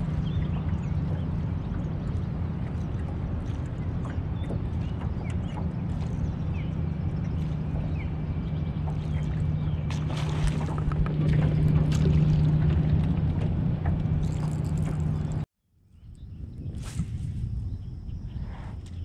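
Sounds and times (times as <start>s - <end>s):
boat motor humming: 0.0s - 15.5s.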